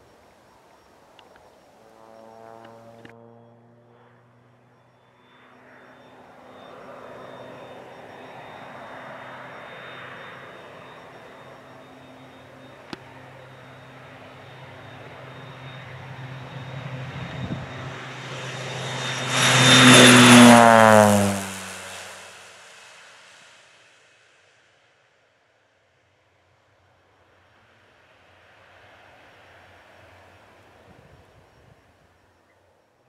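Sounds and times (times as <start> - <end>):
propeller plane flying low: 0.0 - 24.2, 26.0 - 32.6.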